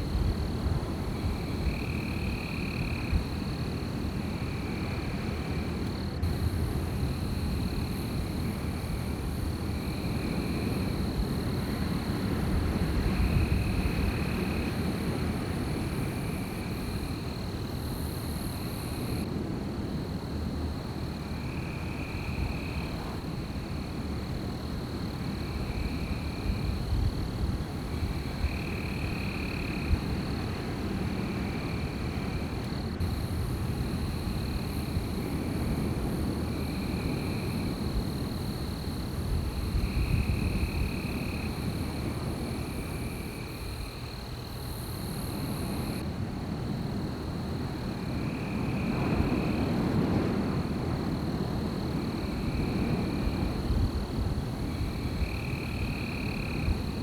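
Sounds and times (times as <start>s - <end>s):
night insects droning: 0.0s - 57.0s
wind gusting: 0.0s - 57.0s.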